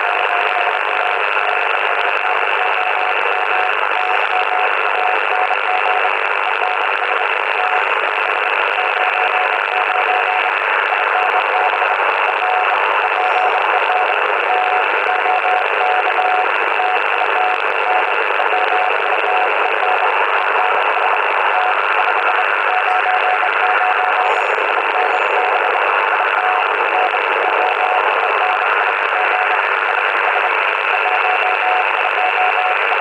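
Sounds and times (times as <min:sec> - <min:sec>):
morse code tone: 0:00.0 - 0:33.0
receiver hiss: 0:00.0 - 0:33.0.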